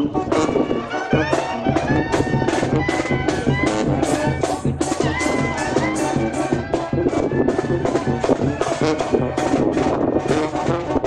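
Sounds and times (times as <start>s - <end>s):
brass melody: 0.0s - 11.0s
steady drum beat: 0.0s - 11.0s.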